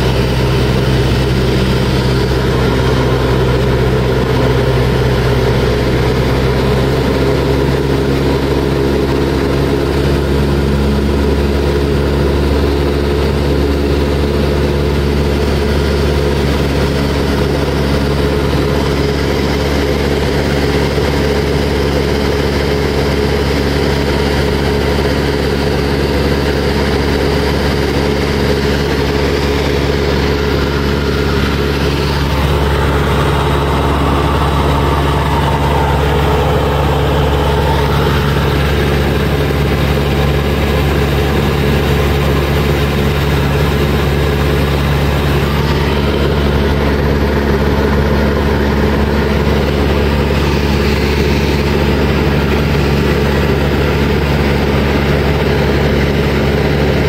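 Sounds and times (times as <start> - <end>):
propeller plane engine in flight: 0.0 - 57.0.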